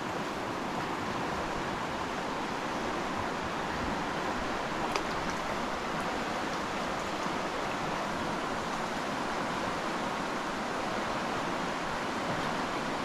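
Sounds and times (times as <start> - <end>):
fast-flowing stream rushing: 0.0 - 13.0.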